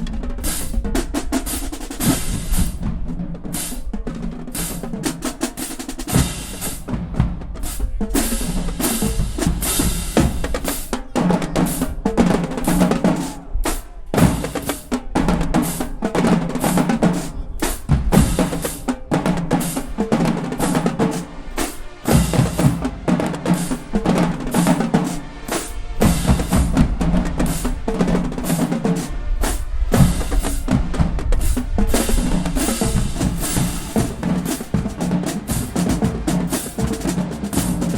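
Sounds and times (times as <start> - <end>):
marching drumline playing: 0.0 - 37.9.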